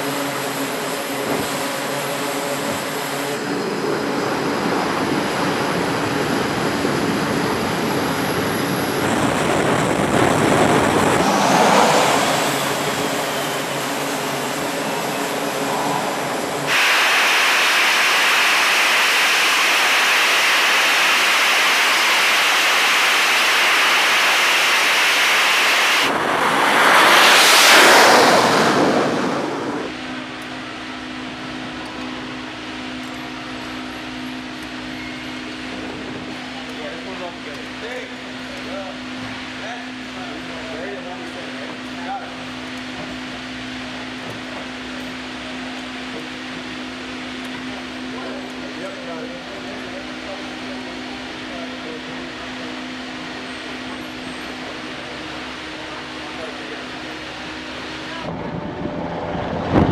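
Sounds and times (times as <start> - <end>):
jet engine roar with whine: 0.0 - 59.9
jet roar: 0.0 - 59.9.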